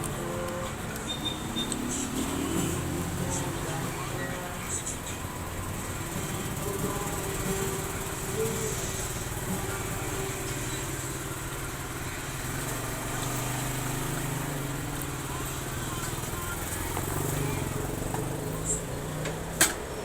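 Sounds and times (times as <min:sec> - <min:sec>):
engine running low drone: 0:00.0 - 0:20.0.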